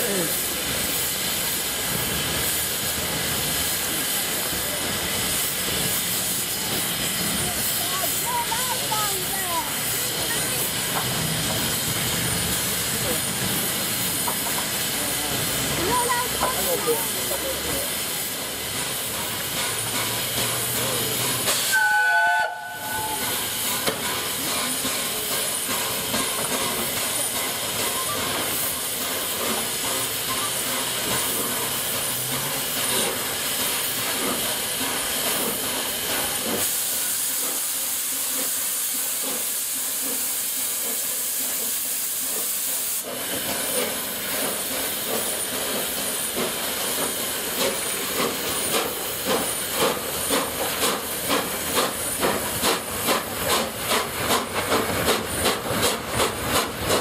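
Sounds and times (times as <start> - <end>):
locomotive steam hissing: 0.0 - 57.0.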